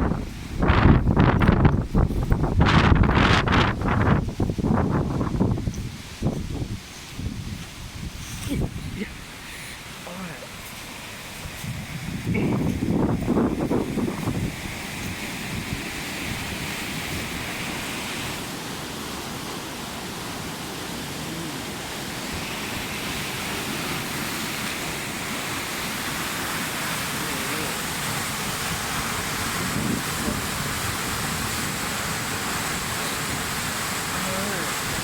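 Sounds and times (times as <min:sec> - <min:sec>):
water rushing through weir gates: 0:00.0 - 0:35.0.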